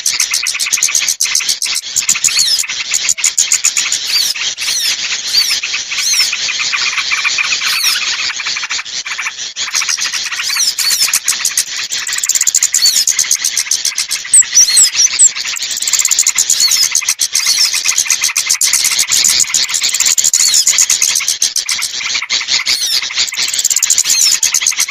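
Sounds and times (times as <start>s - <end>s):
small birds chirping and trilling: 0.0s - 24.9s.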